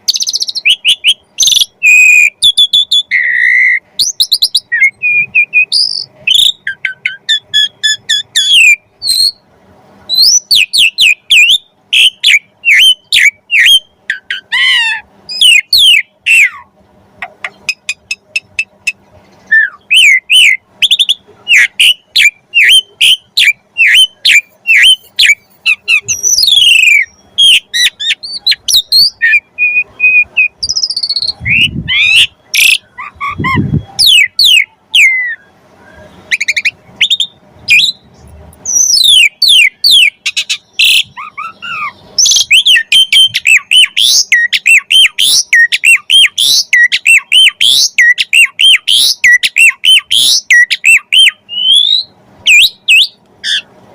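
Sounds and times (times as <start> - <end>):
starling singing whistled chirps: 0.0 - 9.4, 10.1 - 16.7, 17.4 - 53.7
harsh bird calls: 0.0 - 53.9.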